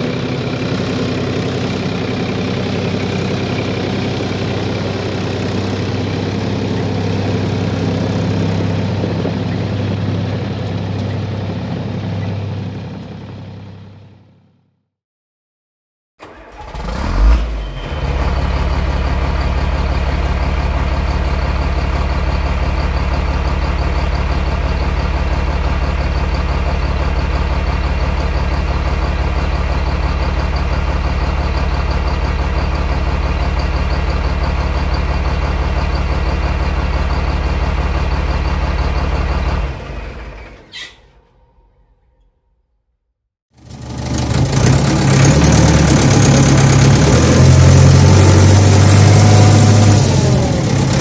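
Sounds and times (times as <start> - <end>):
engine running: 0.0 - 14.6, 16.2 - 41.8, 43.6 - 51.0.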